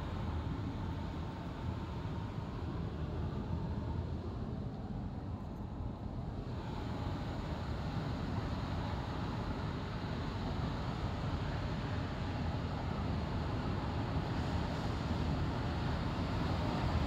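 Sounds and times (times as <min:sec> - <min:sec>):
road and tyre noise inside car: 0:00.0 - 0:17.0.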